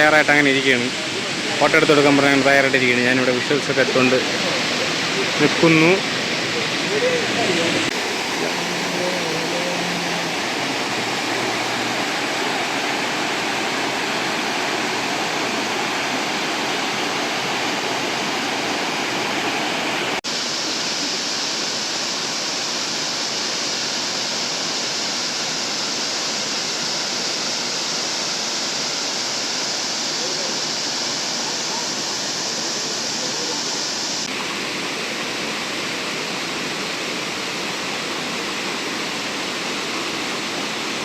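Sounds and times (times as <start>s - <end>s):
water rushing from small waterfall: 0.0s - 41.0s.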